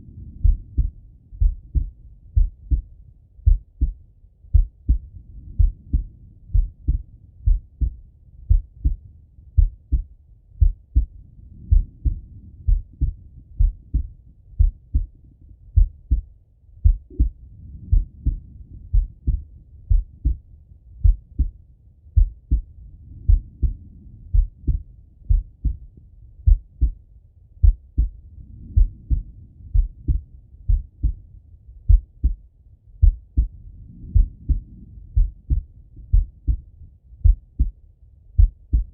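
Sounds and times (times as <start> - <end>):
heartbeat through stethoscope: 0.0 - 38.9.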